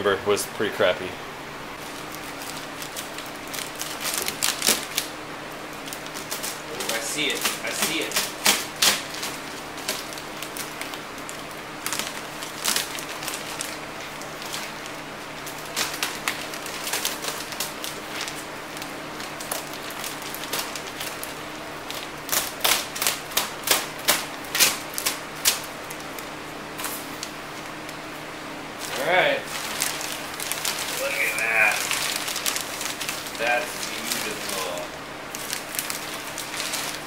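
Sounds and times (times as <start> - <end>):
plastic bag crinkling: 1.8 - 37.0.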